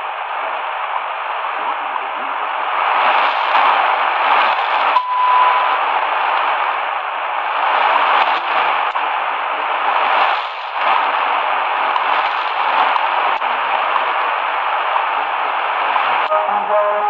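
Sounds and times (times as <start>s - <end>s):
shortwave radio static hiss: 0.0s - 17.0s.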